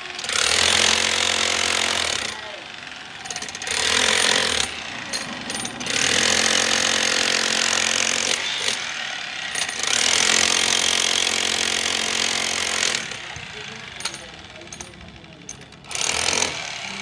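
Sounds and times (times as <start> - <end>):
power tool running: 0.0 - 17.0.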